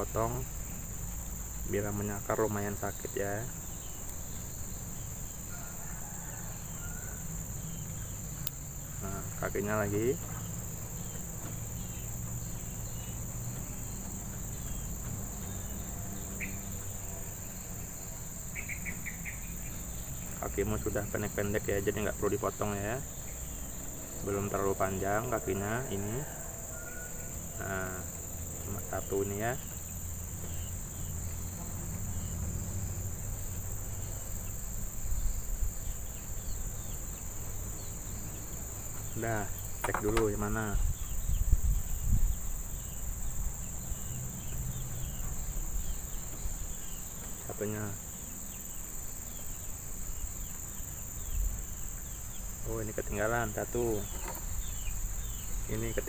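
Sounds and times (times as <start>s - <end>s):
crickets chirping: 0.0s - 56.0s
insect chorus drone: 0.0s - 56.0s.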